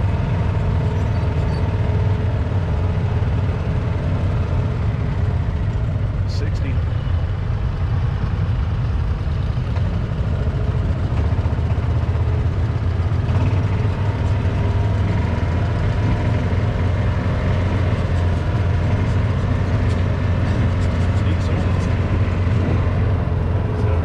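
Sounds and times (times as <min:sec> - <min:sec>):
vehicle engine running steadily: 0:00.0 - 0:24.0.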